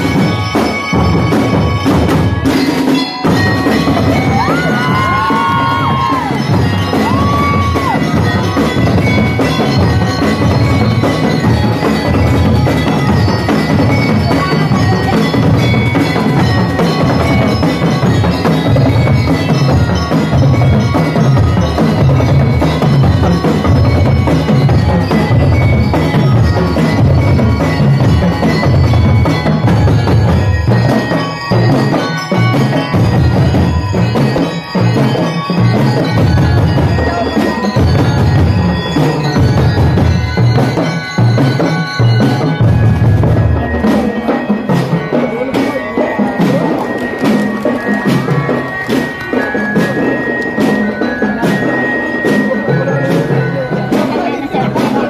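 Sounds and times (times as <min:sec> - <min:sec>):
bell lyre melody: 0:00.0 - 0:55.0
marching snare and bass drums: 0:00.0 - 0:55.0.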